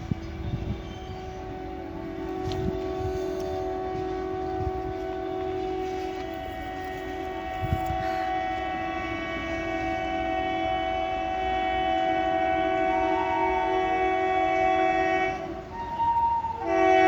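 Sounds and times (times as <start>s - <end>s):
train horn: 0.0s - 17.0s
train rumbling past: 0.0s - 17.0s.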